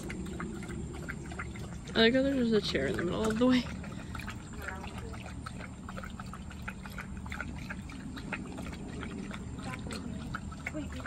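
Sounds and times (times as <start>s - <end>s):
dog lapping water: 0.0s - 11.0s.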